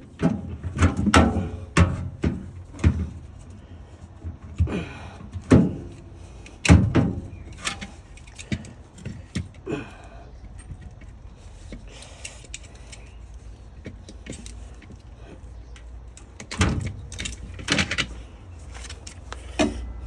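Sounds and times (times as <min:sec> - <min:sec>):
tools knocking and clattering: 0:00.0 - 0:09.6, 0:10.3 - 0:20.0
faint clicks and rustling: 0:02.4 - 0:20.0.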